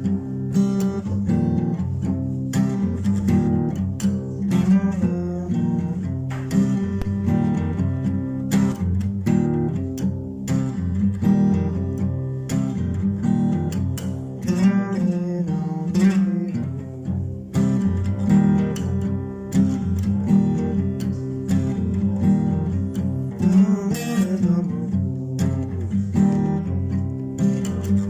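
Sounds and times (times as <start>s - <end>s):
acoustic blues guitar: 0.0s - 28.0s.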